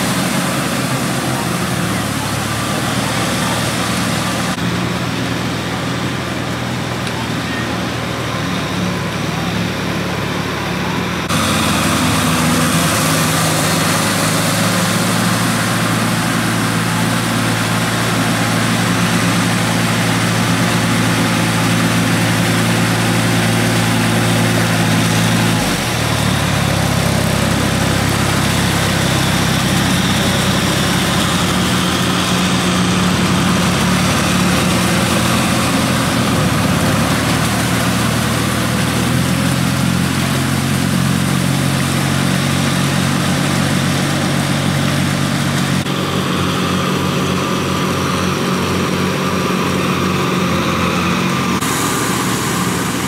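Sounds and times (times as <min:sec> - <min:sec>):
tractor diesel engine: 0:00.0 - 0:53.0.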